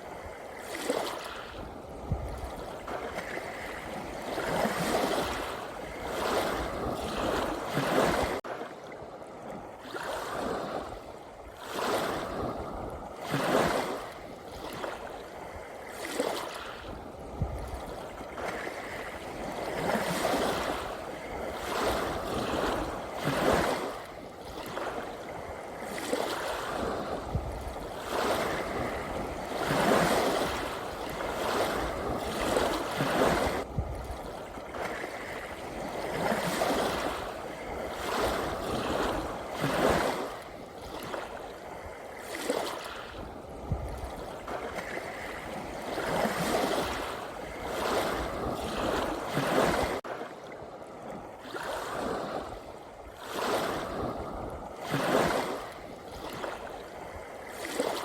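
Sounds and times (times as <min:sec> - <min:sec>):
small sea waves washing in: 0:00.0 - 0:58.0.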